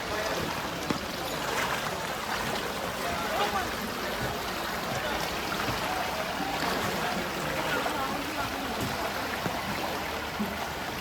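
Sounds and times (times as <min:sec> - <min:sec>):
faint voices: 0:00.0 - 0:11.0
floodwater sloshing and splashing: 0:00.0 - 0:11.0.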